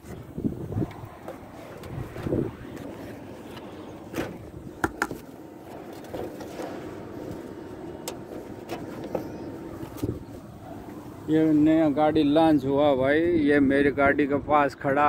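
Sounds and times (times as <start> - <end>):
low vehicle hum: 0.0 - 12.6.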